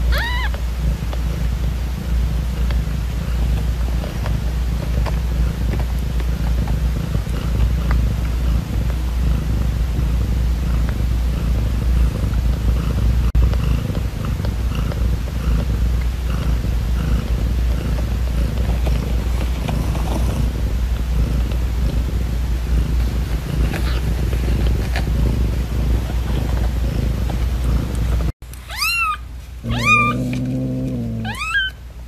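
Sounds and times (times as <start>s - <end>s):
cat purring: 0.0s - 31.8s.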